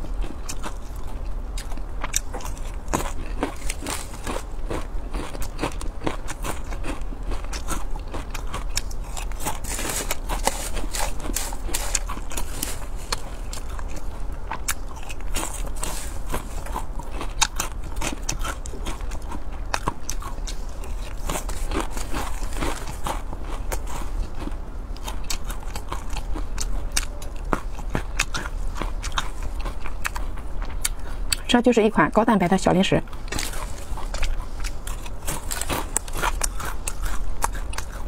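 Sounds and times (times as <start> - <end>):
close chewing crunches: 0.0 - 31.6, 32.9 - 38.0.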